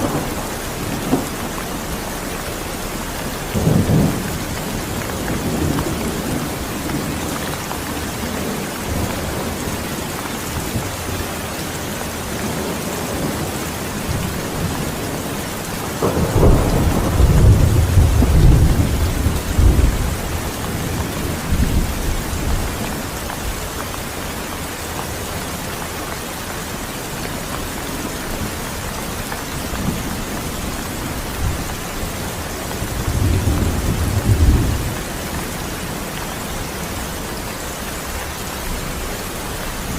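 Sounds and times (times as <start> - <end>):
thunder rumbling: 0.0 - 23.6, 27.7 - 37.2
steady rain falling: 0.0 - 39.9.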